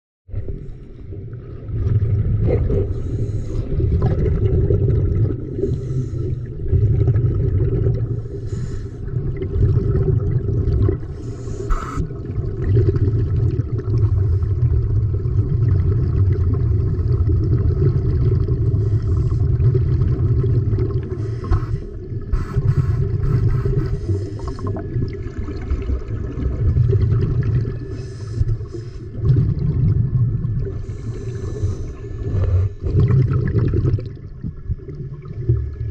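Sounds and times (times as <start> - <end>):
muffled underwater rumble: 0.3 - 35.9.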